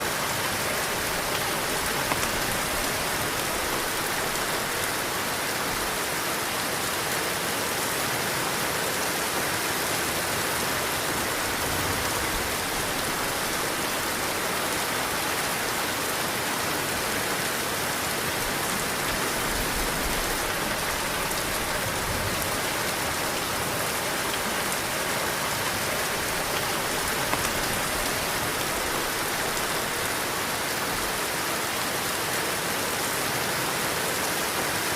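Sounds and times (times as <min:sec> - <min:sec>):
heavy rain falling: 0:00.0 - 0:34.9
wind: 0:00.0 - 0:34.9.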